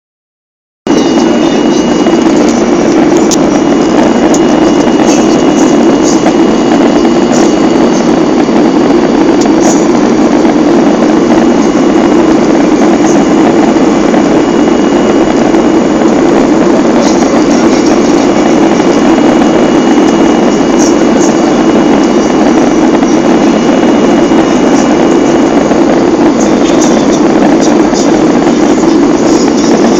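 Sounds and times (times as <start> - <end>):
aircraft cabin engine drone: 0.9 - 29.9.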